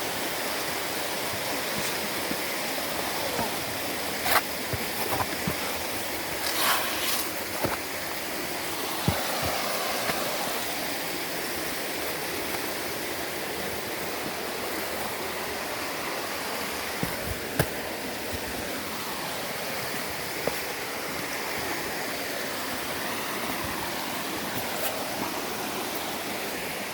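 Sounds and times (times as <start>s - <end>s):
running water rushing: 0.0s - 26.9s.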